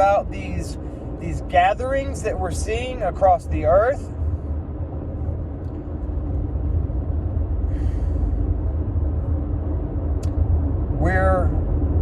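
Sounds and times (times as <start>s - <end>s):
car rumbling in motion: 0.0s - 12.0s.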